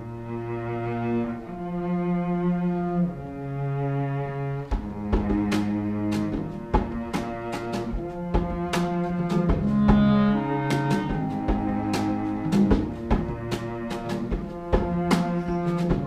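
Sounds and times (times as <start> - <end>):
orchestra playing: 0.0 - 16.0.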